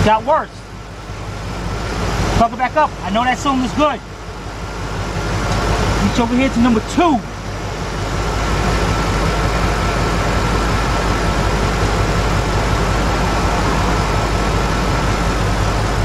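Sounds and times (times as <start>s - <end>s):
car engine idling rough: 0.0s - 16.0s
thin high whine: 0.0s - 16.0s.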